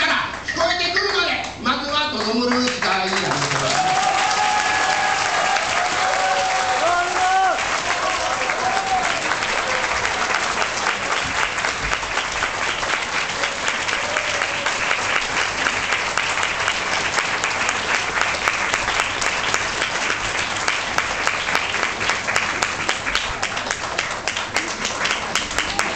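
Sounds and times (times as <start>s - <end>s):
audience applauding: 2.2s - 25.9s.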